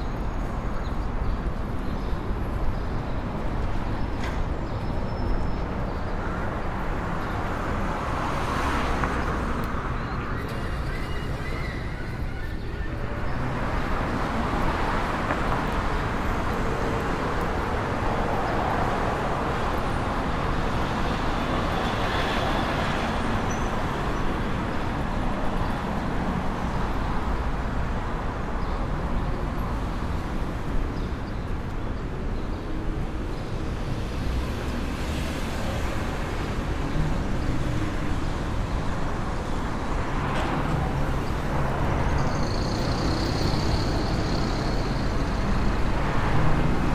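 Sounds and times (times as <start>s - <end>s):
passing cars and road noise: 0.0s - 46.9s.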